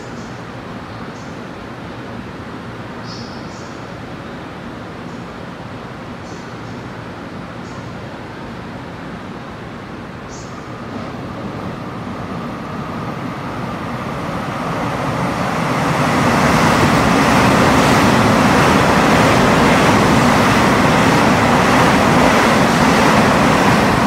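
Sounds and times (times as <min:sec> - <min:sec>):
electric train passing: 0:03.8 - 0:24.0.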